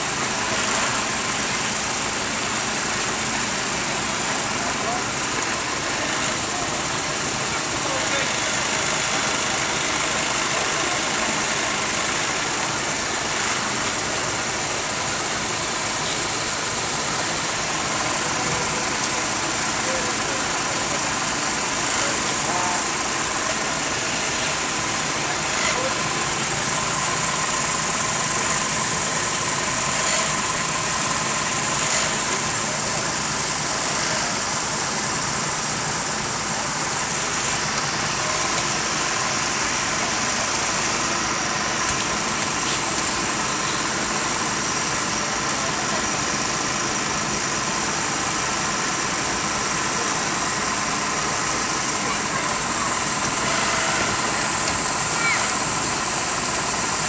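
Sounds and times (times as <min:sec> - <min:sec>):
engine running with whine: 0:00.0 - 0:57.0.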